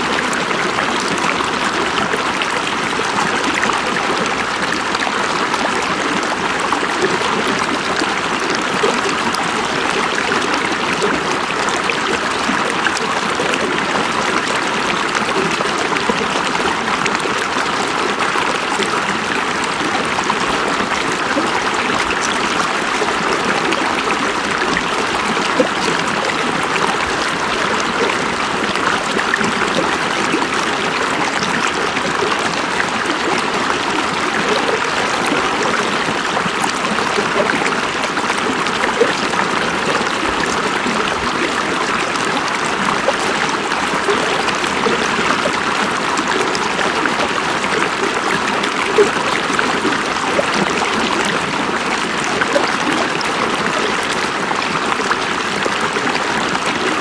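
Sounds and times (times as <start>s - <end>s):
river babbling over stones: 0.0s - 57.0s.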